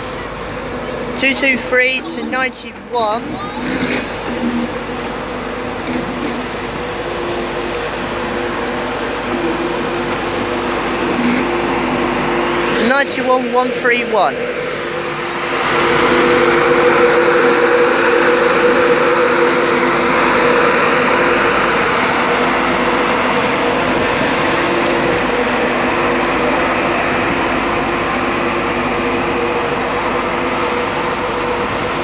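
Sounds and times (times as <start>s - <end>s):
electric locomotive humming: 0.0s - 32.0s.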